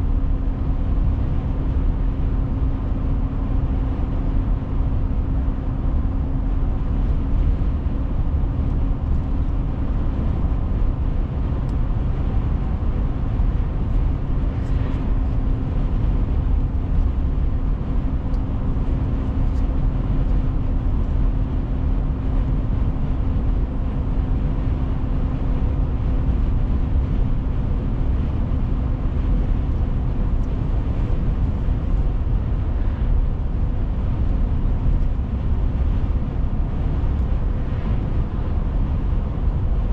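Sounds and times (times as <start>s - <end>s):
droning engine hum: 0.0s - 39.9s.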